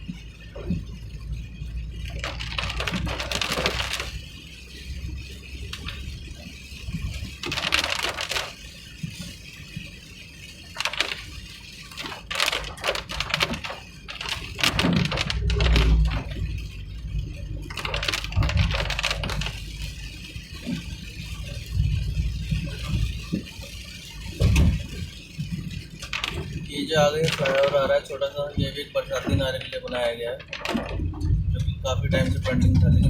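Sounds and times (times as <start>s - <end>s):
car driving on road: 0.0s - 33.0s.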